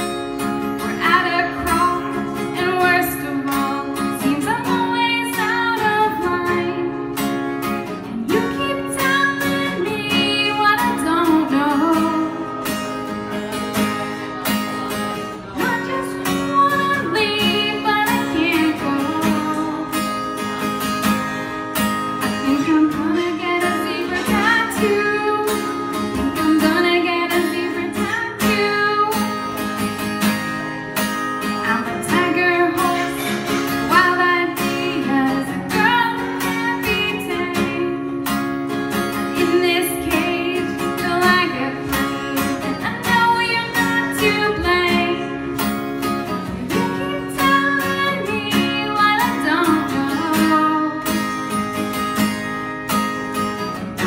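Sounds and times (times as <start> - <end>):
acoustic guitar strumming: 0.0 - 54.0
woman singing: 0.7 - 12.9, 15.3 - 20.4, 22.2 - 29.7, 31.4 - 51.4.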